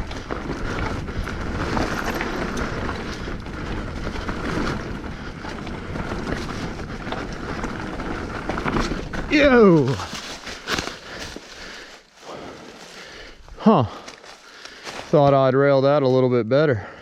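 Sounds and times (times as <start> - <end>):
bike rattles and clicks: 0.0 - 15.4
bike tyre noise on dirt: 0.0 - 15.7.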